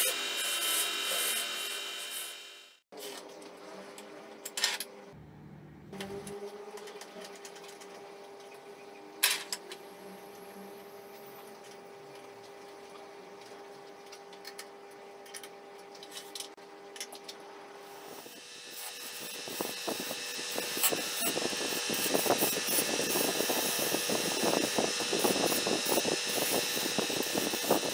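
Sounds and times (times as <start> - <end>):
electrical hum: 5.0 - 27.9.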